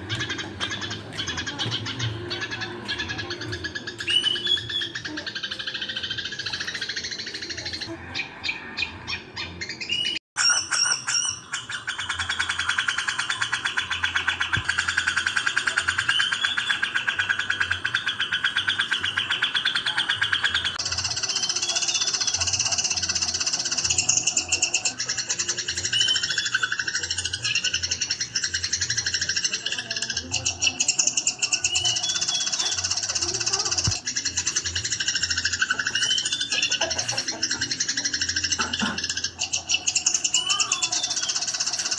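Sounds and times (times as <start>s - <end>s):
bulbul song: 0.0s - 41.9s
sparrows chattering: 0.0s - 41.9s.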